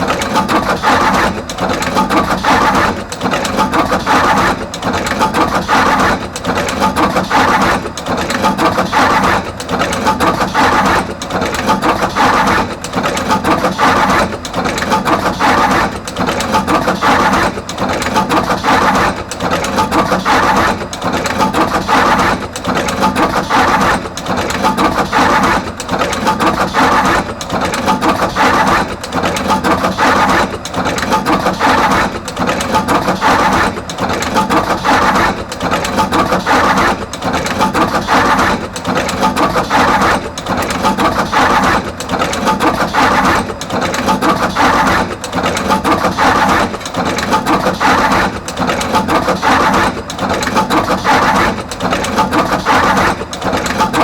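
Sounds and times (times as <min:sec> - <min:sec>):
wire crimping machine clattering: 0:00.0 - 0:54.0.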